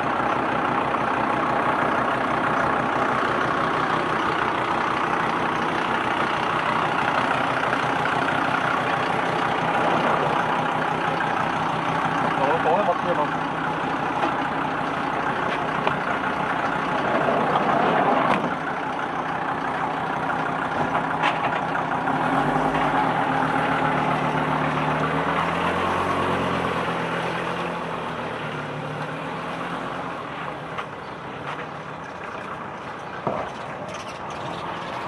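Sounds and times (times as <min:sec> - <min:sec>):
street noise: 0:00.0 - 0:35.0
van engine running: 0:00.0 - 0:35.0.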